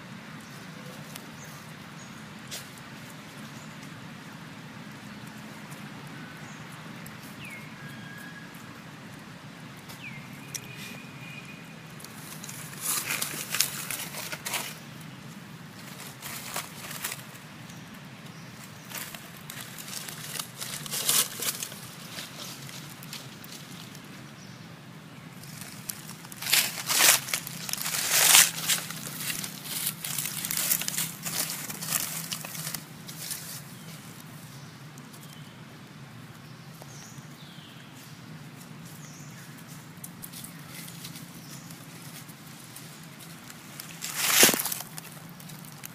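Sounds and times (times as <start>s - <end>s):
dry leaves crackling and rustling: 0.4s - 35.5s, 36.2s - 45.9s.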